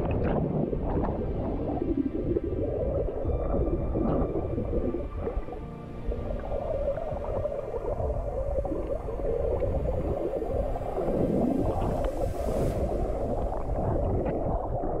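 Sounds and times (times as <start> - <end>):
muffled underwater gurgling rumble: 0.0 - 15.0.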